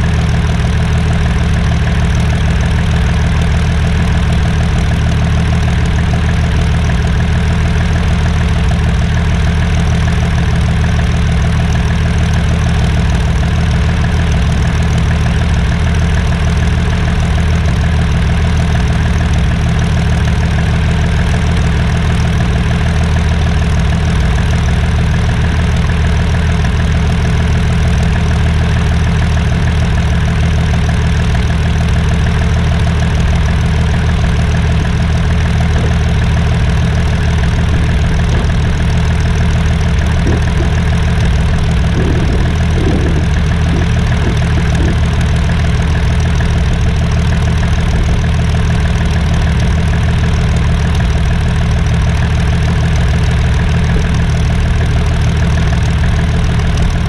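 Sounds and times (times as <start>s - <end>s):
aircraft engine idling: 0.0s - 57.0s.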